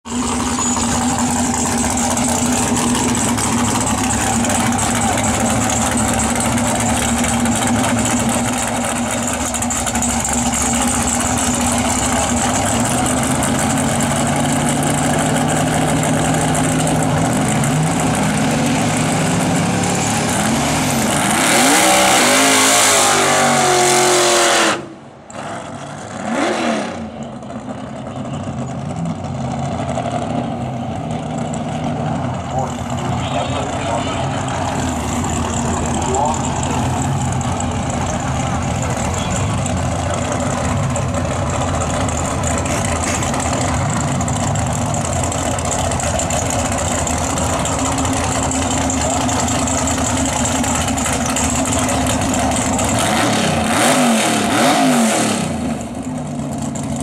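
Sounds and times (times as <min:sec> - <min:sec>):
drag car engine revving: 0:00.1 - 0:57.0.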